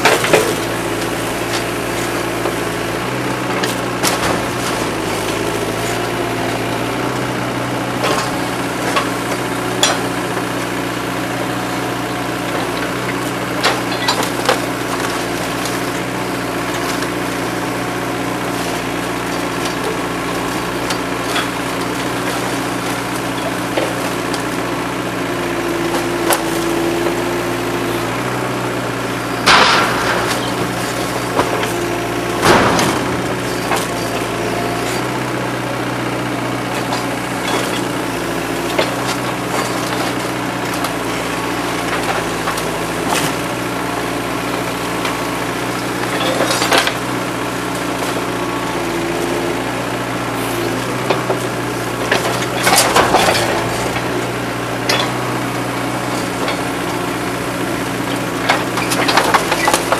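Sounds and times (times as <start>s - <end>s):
excavator diesel engine running: 0.0s - 59.9s
hydraulic whine: 0.0s - 59.9s
wood debris crunching and splintering: 0.0s - 59.9s.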